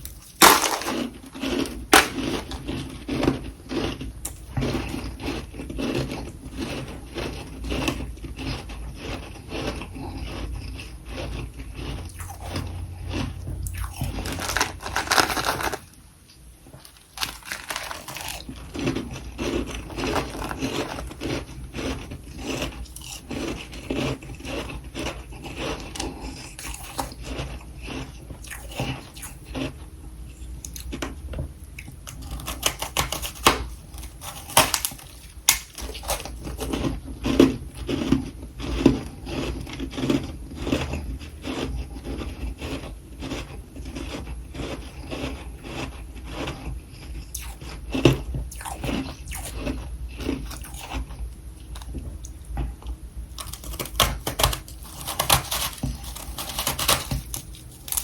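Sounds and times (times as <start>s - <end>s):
close-up crunching and crackling: 0.0s - 58.0s.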